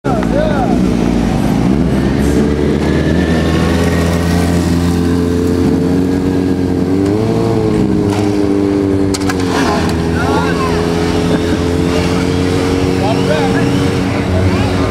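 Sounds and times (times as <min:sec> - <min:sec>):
motorcycle engine revving: 0:00.1 - 0:14.9.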